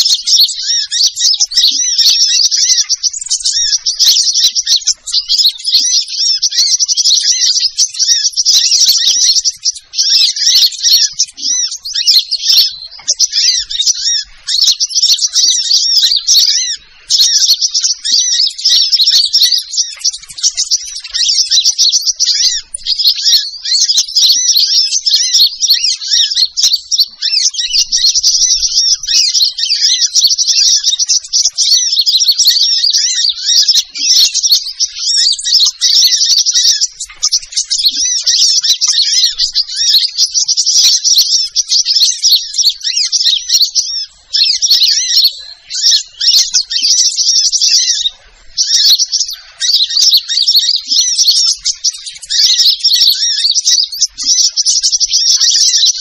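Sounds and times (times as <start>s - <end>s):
sunbird twittering chirps: 0.0s - 56.0s.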